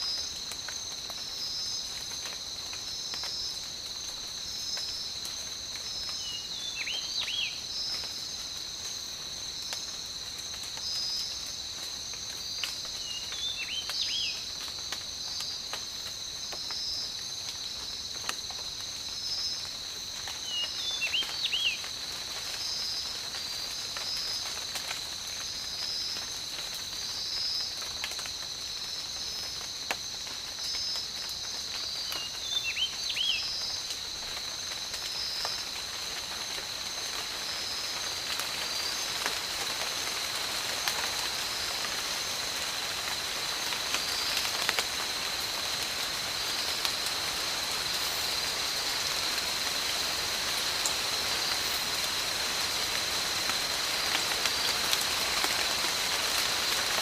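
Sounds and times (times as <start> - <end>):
insects chorus: 0.0 - 57.0
light rain patter: 0.0 - 57.0.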